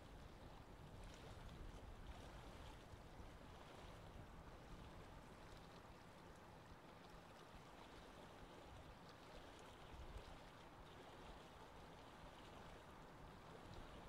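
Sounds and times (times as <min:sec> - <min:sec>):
sea water washing around boat: 0:00.0 - 0:14.0.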